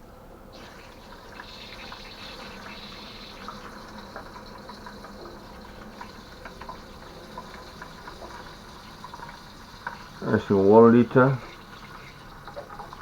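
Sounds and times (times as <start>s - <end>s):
water running into a container: 0.5s - 13.0s
water splashes and drips: 0.6s - 13.0s.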